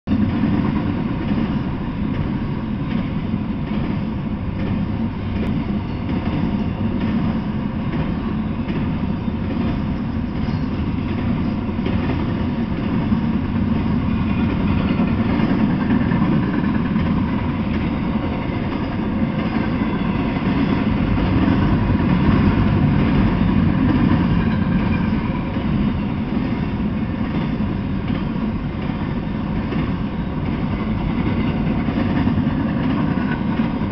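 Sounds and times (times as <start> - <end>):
freight train rolling past: 0.1 - 33.9.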